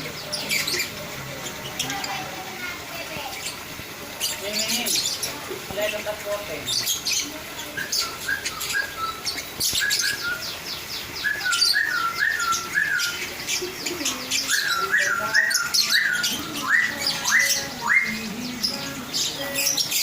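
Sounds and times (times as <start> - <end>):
lovebirds chattering: 0.0 - 20.0.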